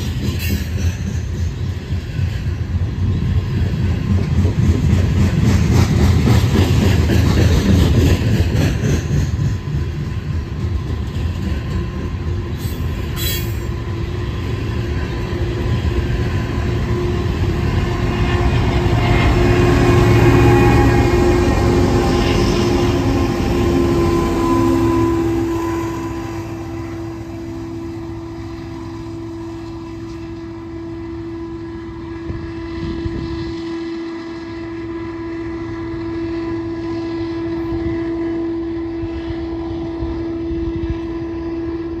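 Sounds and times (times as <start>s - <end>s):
diesel locomotives working hard: 0.0s - 42.0s.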